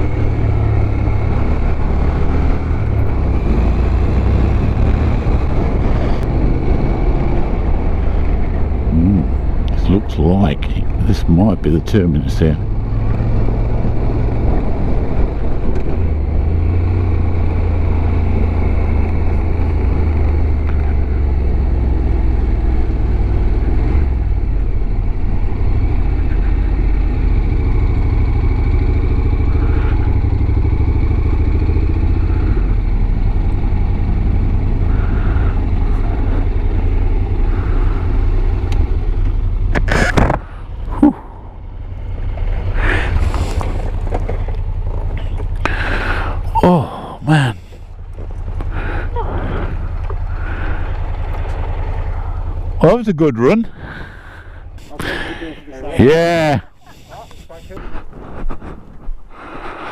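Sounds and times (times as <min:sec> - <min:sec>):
motorcycle engine rumble: 0:00.0 - 0:59.9.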